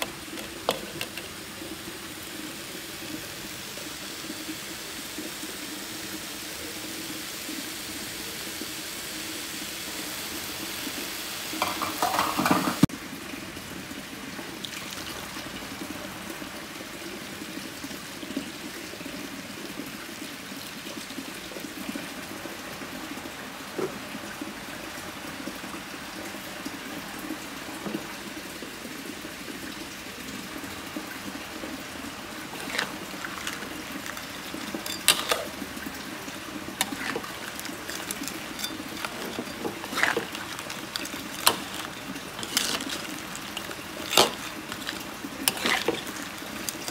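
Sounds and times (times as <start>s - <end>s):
liquid simmering in wok: 0.0s - 22.9s, 23.7s - 46.9s.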